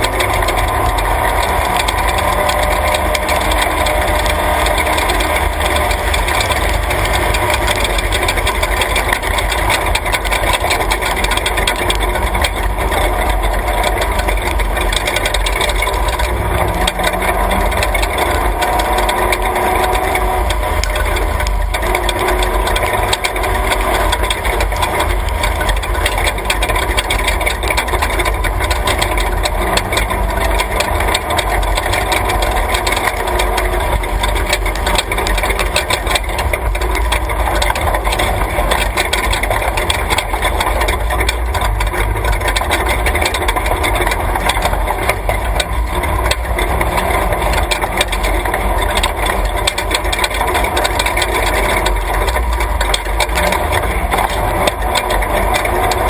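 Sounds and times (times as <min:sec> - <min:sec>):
rattling on rough road: 0:00.0 - 0:56.0
truck engine under load: 0:00.0 - 0:56.0.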